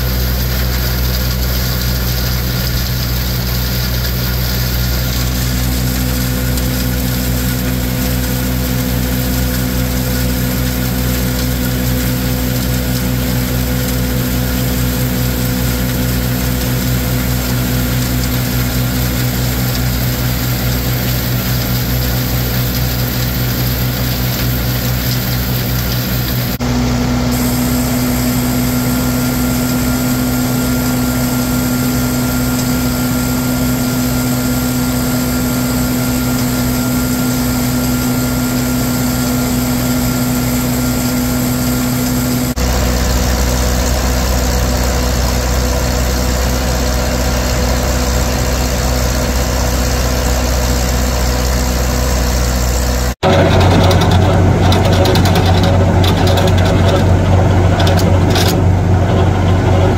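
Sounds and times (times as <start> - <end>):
tractor driving silo blower: 0.0 - 59.9.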